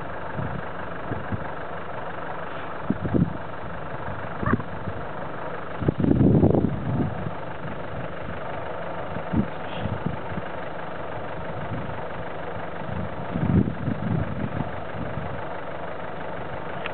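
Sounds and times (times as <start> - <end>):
vehicle bumping rumble: 0.0 - 16.9
vehicle engine idling: 0.0 - 16.9.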